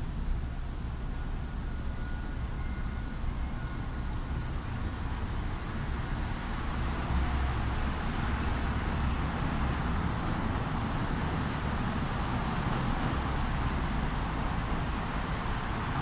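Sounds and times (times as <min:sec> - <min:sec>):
outdoor background rumble and hiss: 0:00.0 - 0:16.0.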